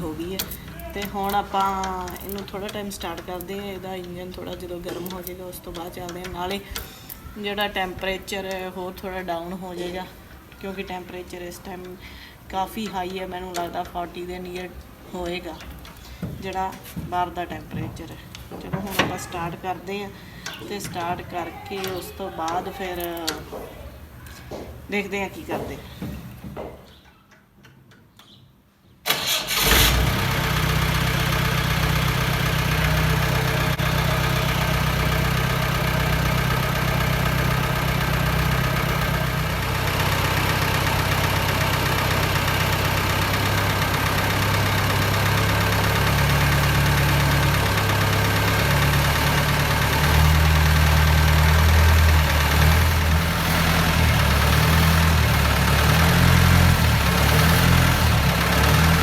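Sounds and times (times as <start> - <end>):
car engine starting and idling: 0.0 - 23.4, 29.1 - 59.0.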